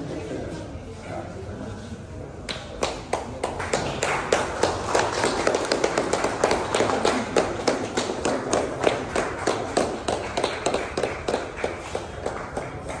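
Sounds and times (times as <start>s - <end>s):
group clapping: 2.4s - 13.0s.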